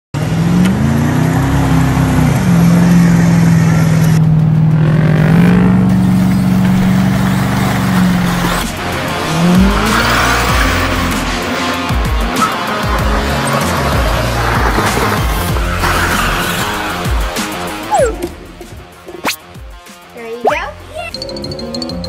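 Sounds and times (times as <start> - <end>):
engine revving: 0.2 - 19.4.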